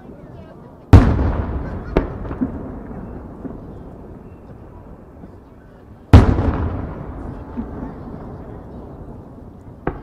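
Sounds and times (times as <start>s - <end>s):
echoing firework rumble: 0.0s - 10.0s.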